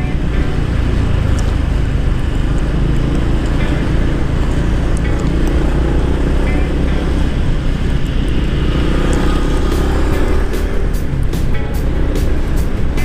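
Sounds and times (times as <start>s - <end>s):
road and traffic noise: 0.0s - 13.0s
scooter engine running: 0.0s - 13.0s.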